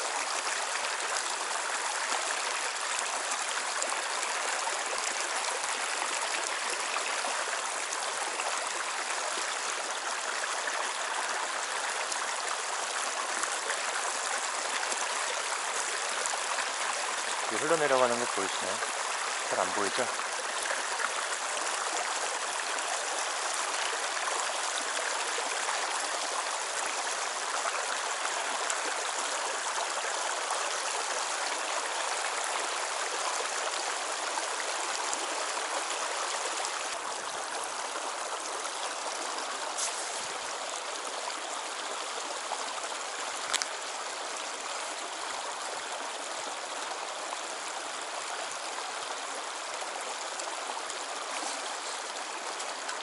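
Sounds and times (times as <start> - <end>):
river flowing over rocks: 0.0 - 53.0.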